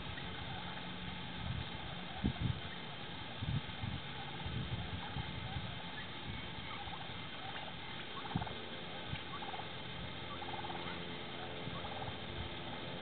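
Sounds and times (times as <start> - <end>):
steady low hum: 0.0 - 13.0
wild turkeys calling: 0.0 - 13.0.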